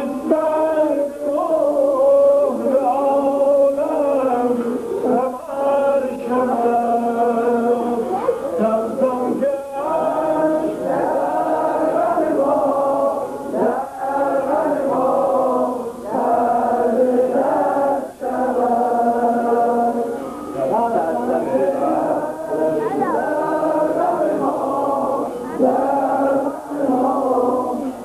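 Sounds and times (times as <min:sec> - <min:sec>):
voices chanting together: 0:00.0 - 0:28.0.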